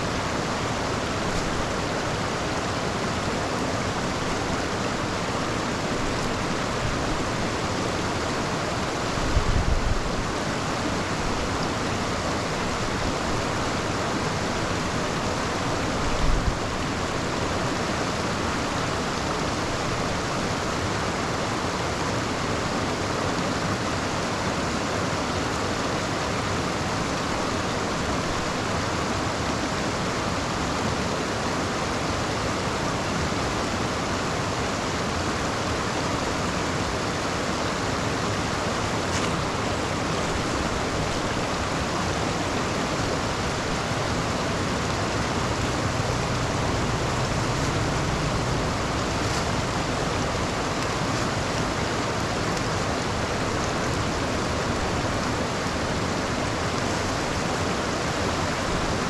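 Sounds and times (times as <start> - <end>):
water pouring into storm drain: 0.0 - 59.0.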